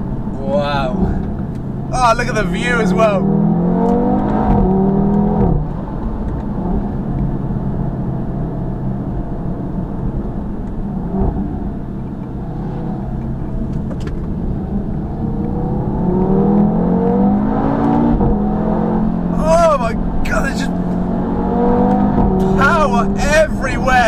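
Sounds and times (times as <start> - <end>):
road noise: 0.0 - 24.0
car engine accelerating: 0.1 - 24.0.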